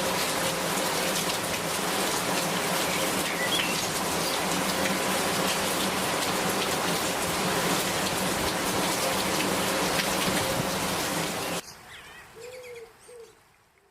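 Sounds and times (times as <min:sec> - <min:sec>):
steady rain falling: 0:00.0 - 0:12.4.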